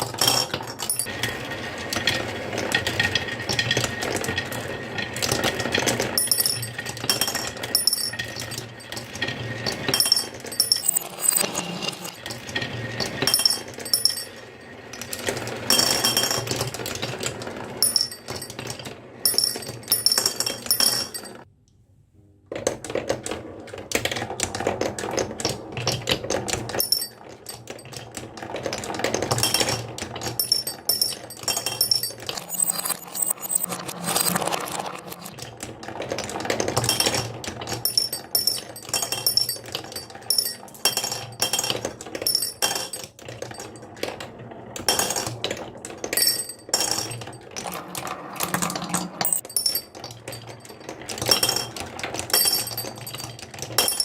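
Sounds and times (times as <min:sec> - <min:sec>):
marbles rolling on wooden track: 0:00.0 - 0:21.5, 0:22.5 - 0:54.0.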